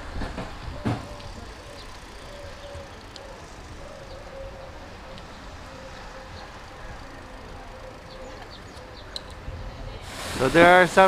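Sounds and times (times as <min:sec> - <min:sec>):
traffic rumble: 0:00.0 - 0:11.0
faint wavering hum: 0:00.7 - 0:10.0.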